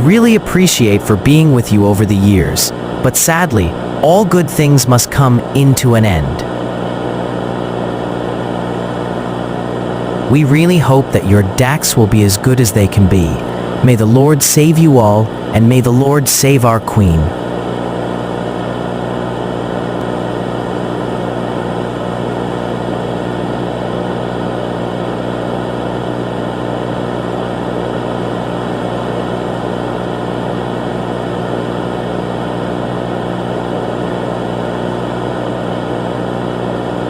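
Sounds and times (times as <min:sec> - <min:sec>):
steady low drone with hiss: 0:00.0 - 0:37.0.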